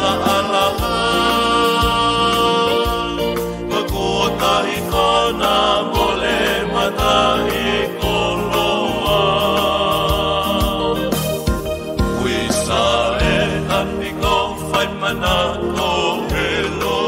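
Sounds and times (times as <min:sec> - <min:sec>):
song with beat: 0:00.0 - 0:17.0.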